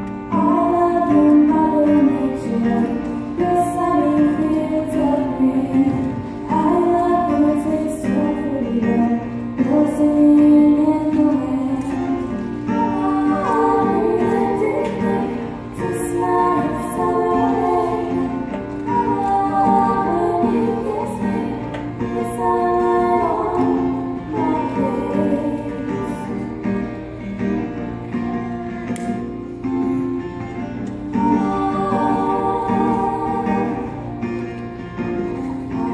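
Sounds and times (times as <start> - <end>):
choir singing: 0.3 - 26.5, 31.1 - 34.4, 35.3 - 35.9.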